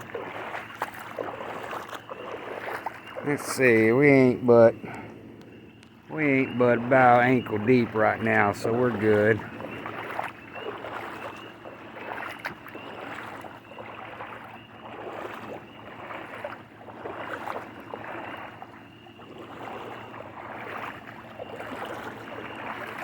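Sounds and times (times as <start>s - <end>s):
footsteps wading through water: 0.0s - 23.0s.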